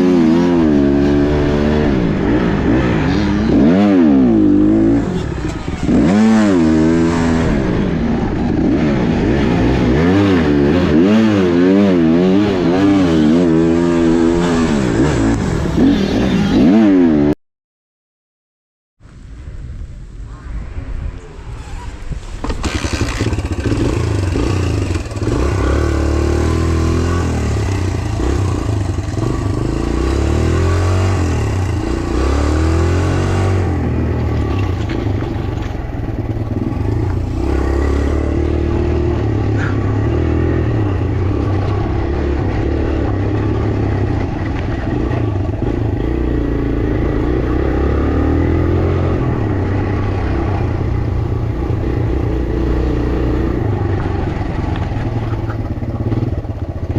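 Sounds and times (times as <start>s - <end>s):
dirt bike engine revving: 0.0s - 17.4s, 21.7s - 56.9s.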